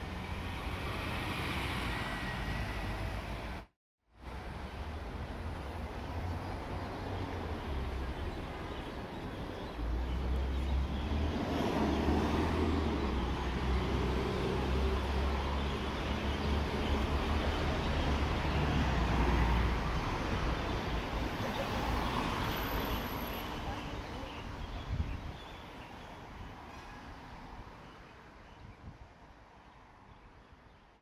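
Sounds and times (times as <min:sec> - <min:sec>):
road traffic: 0:00.0 - 0:31.0.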